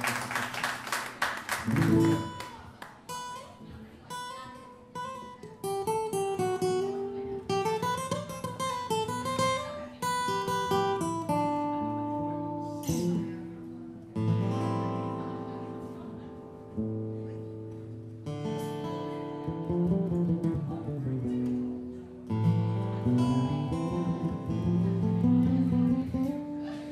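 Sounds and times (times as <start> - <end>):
acoustic guitars playing: 0.0 - 26.9.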